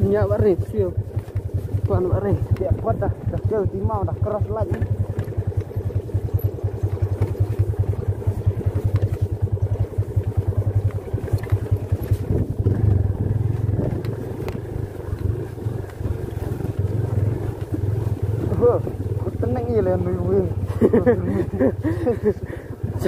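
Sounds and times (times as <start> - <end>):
single-cylinder motorcycle engine: 0.0 - 23.0.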